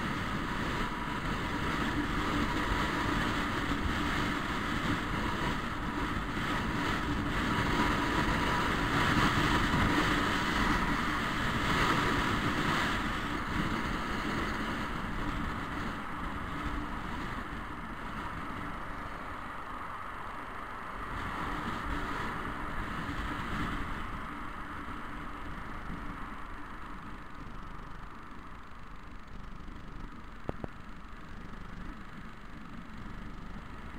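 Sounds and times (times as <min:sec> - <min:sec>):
wind rushing over microphone: 0:00.0 - 0:28.0
scooter engine drone: 0:00.0 - 0:33.9.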